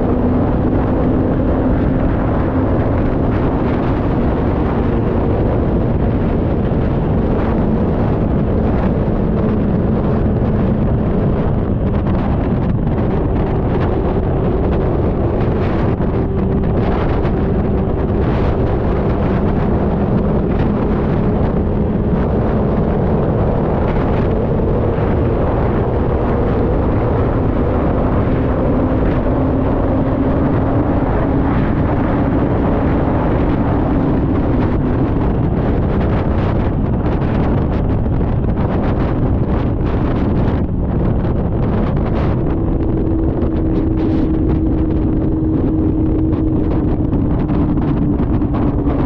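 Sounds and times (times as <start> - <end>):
low hum: 0.0 - 49.0
wind buffeting microphone: 0.0 - 49.0.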